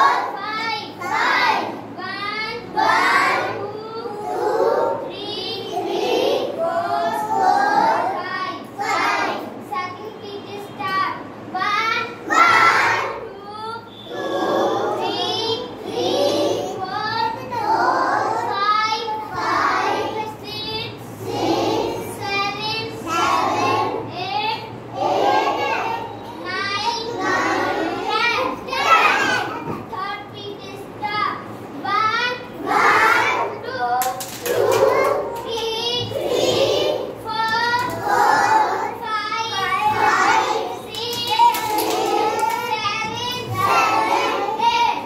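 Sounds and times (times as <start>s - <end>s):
young children singing: 0.0s - 45.0s.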